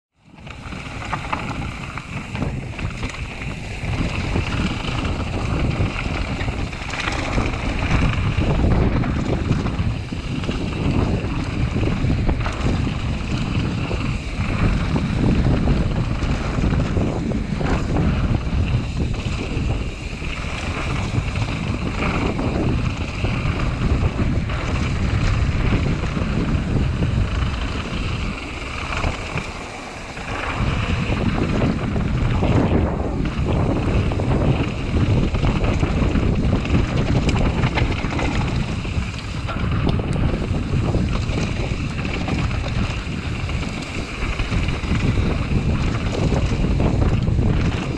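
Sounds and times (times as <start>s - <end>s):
rumble of bike tyres: 0.1s - 47.9s
wind buffeting microphone: 0.2s - 47.9s.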